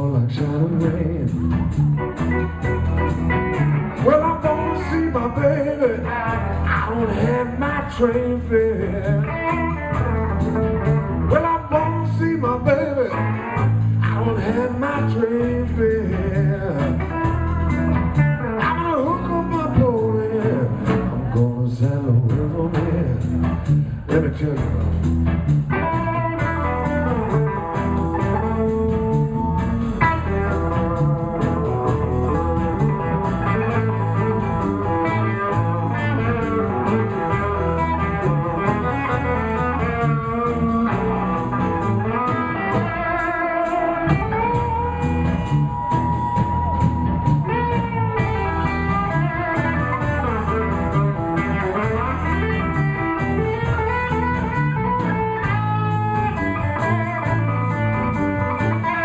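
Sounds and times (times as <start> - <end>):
electric lead guitar bending notes: 0.0 - 21.4, 22.4 - 59.0
bass guitar: 0.0 - 59.0
drums: 0.0 - 59.0.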